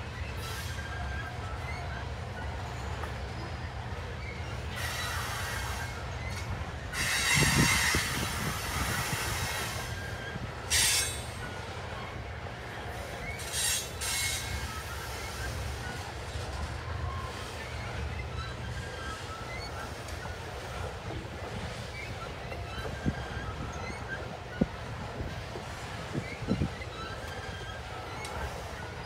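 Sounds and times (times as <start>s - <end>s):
freight train rumbling past: 0.0s - 29.0s
wheel squeal: 0.0s - 29.0s.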